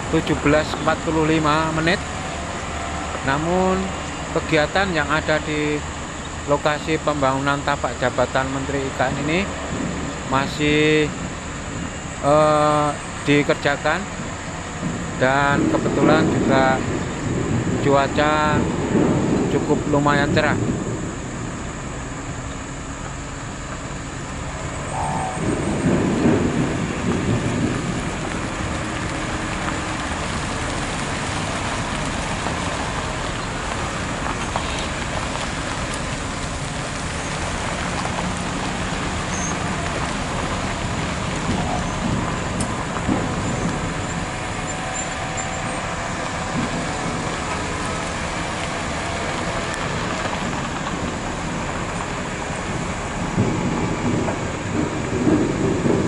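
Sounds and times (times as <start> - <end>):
heavy diesel machinery rumbling: 0.0 - 56.0.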